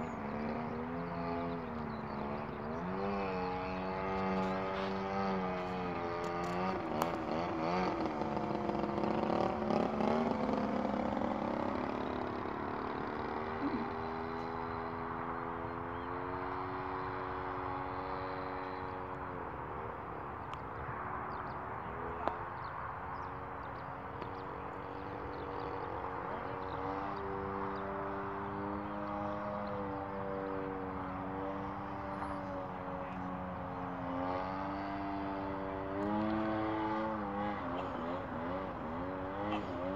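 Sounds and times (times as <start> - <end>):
model plane engine: 0.0 - 39.9.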